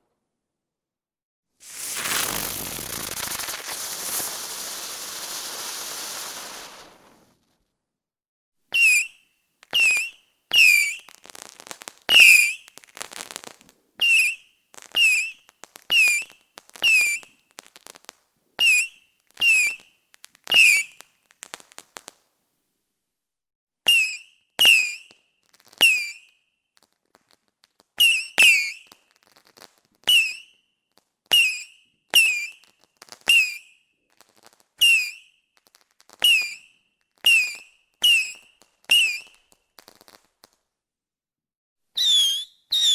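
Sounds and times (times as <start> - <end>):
fireworks cracking with whistle: 1.6 - 7.7, 8.7 - 22.3, 23.9 - 40.6, 42.0 - 42.9
fireworks crackle: 1.6 - 7.8, 8.8 - 22.3, 23.9 - 40.7, 42.0 - 42.9.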